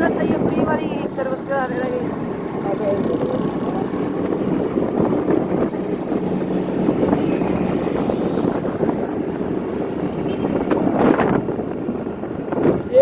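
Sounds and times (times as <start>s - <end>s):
motorcycle engine running: 0.0s - 12.4s
wind buffeting microphone: 0.0s - 13.0s.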